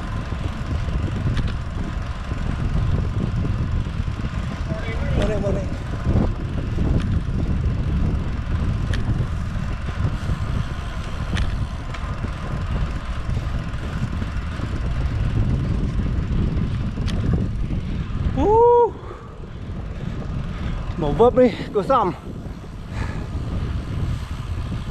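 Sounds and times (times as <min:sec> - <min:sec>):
wind rumbling on microphone: 0:00.0 - 0:24.9.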